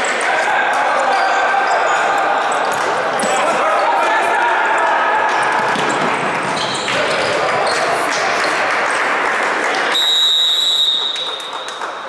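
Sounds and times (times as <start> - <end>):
players calling out: 0.0 - 11.4.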